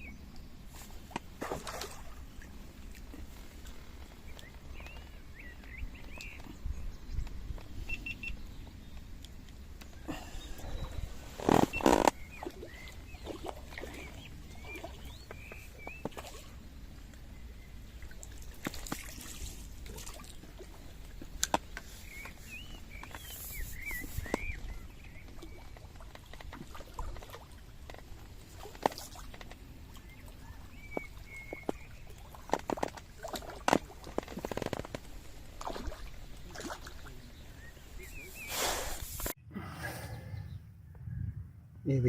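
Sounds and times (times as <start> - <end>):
water sloshing and trickling: 0.6 - 38.4.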